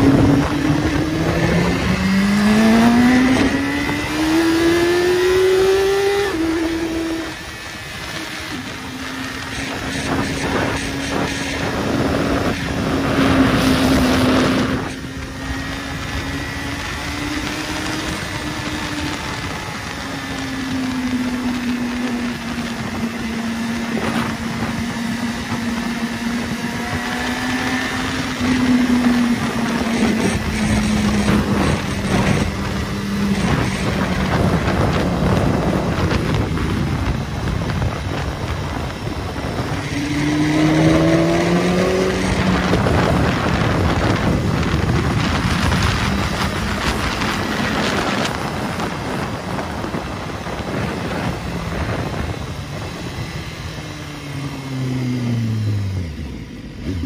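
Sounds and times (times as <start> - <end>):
motorcycle engine cruising: 0.0 - 57.0
wind rushing past microphone: 0.0 - 57.0.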